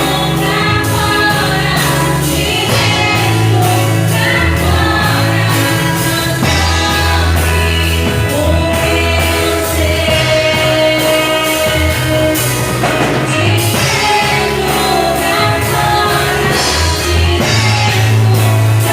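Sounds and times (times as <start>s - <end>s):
band with deep bass line: 0.0s - 18.9s
voices singing together: 0.0s - 18.9s.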